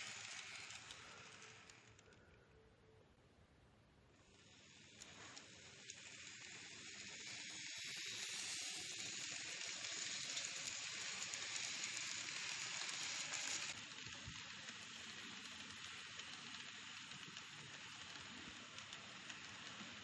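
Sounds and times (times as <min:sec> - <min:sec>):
model train rolling on track: 0:00.0 - 0:02.3, 0:04.1 - 0:20.0.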